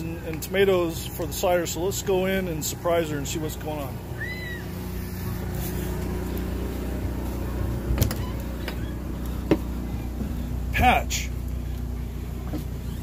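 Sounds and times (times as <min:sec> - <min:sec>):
generator humming: 0:00.0 - 0:13.0.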